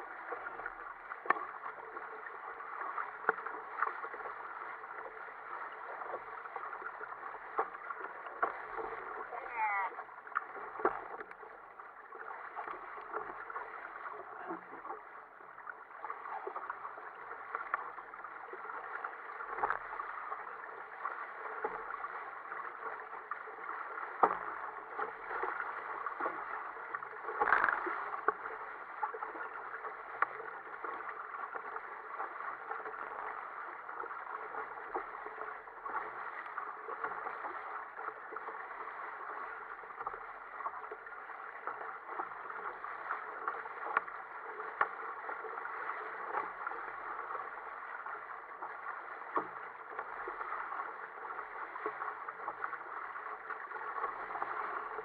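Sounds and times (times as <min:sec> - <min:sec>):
water rushing along kayak hull: 0:00.0 - 0:55.0
water slapping hull: 0:00.0 - 0:55.0.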